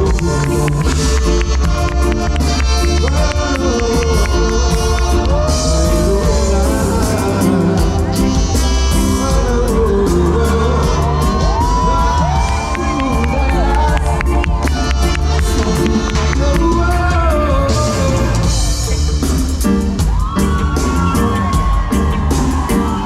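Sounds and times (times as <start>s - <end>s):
crowd shouting: 0.0s - 16.5s, 20.0s - 23.0s
reggae band playing: 0.0s - 23.0s.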